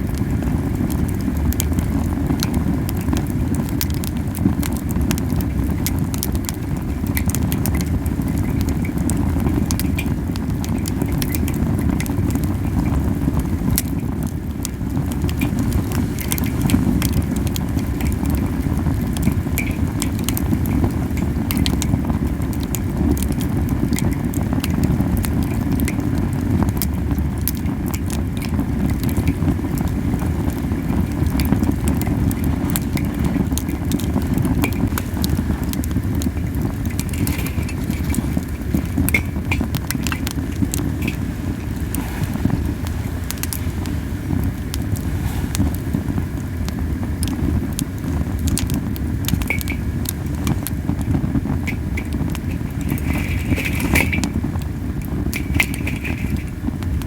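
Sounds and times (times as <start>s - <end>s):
burning wood crackling and popping: 0.0s - 57.0s
campfire flame rumbling: 0.0s - 57.0s.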